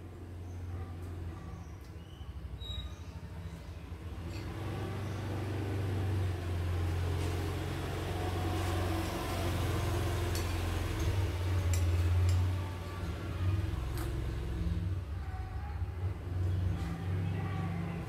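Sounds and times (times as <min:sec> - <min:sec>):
low motor rumble: 0:00.0 - 0:18.0.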